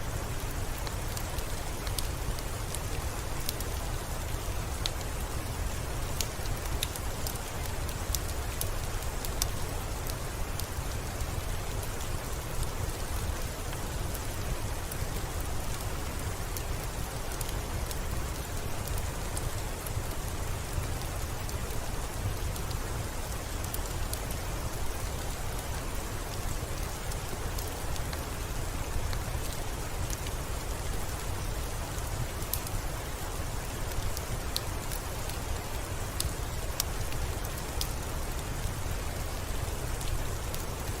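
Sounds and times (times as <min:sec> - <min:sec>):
steady rain hiss: 0:00.0 - 0:41.0
small sharp ticks and crackles: 0:00.1 - 0:41.0.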